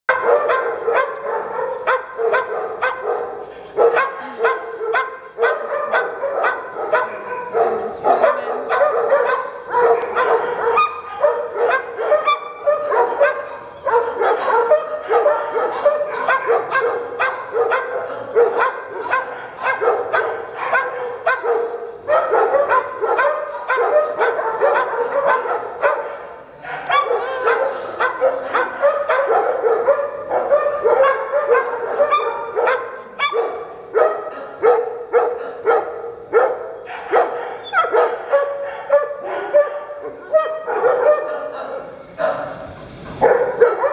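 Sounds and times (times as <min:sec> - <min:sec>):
dogs barking in play: 0:00.1 - 0:43.9.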